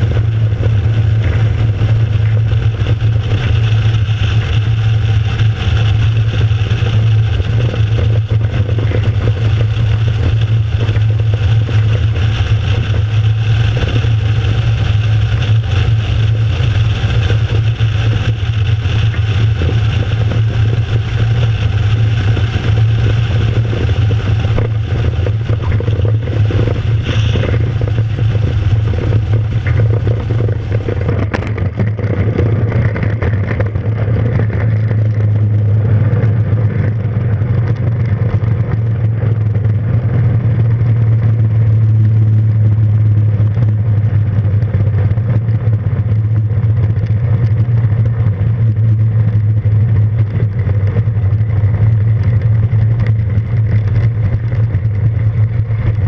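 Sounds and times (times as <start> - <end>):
rushing airflow: 0.0 - 45.2
aircraft engine humming: 0.0 - 56.0.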